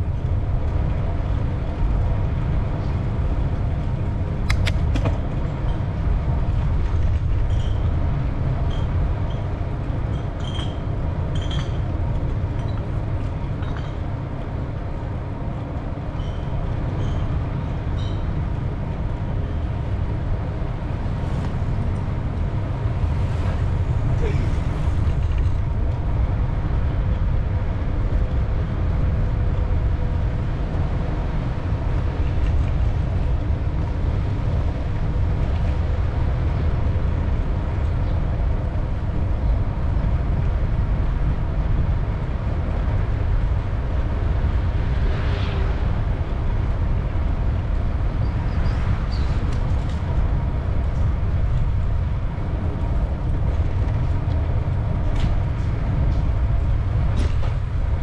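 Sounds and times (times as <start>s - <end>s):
bicycle rolling noise: 0.0s - 58.0s
wind rumble on microphone: 0.0s - 58.0s.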